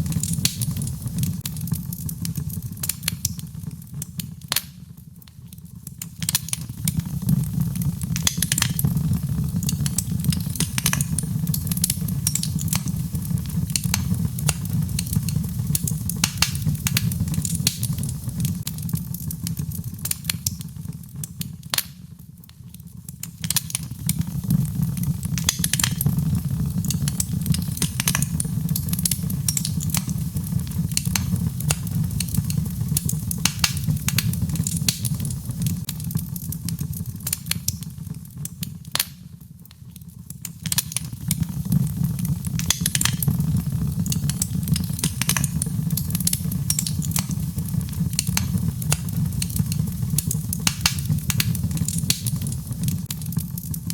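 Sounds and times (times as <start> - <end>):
fire crackling and popping: 0.0 - 53.9
low rumble of flame: 0.0 - 53.9.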